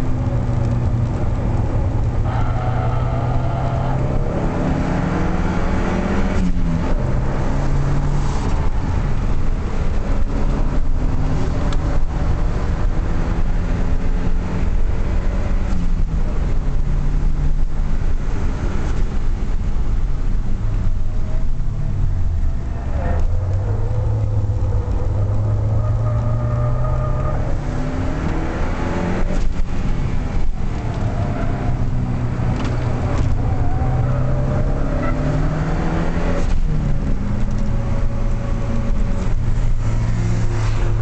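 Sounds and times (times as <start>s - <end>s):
car engine revving in cabin: 0.0s - 41.0s
road and wind noise: 0.0s - 41.0s.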